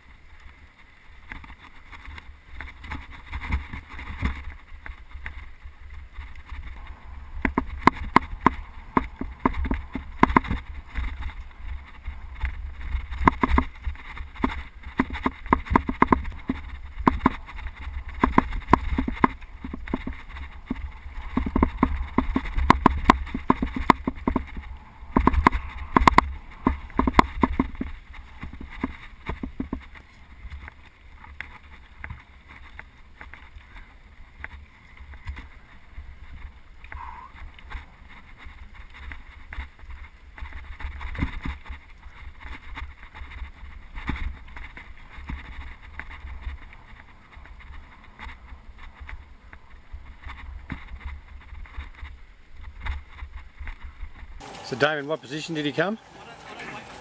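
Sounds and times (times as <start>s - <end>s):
bike clicks and rattles: 0.0s - 54.5s
wind noise on microphone: 0.0s - 54.5s.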